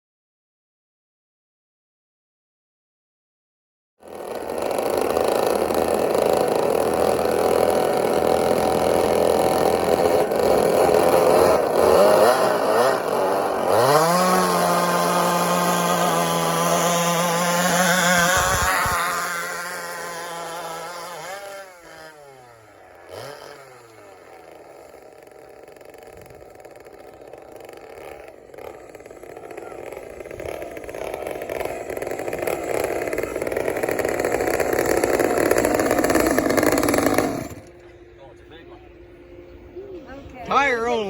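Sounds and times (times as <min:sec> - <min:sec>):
chainsaw engines revving: 0:04.0 - 0:38.5.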